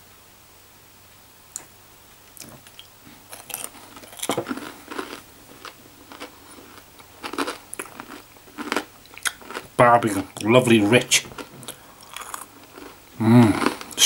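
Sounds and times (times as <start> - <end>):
crunchy chewing of fried chicken: 2.4 - 14.0.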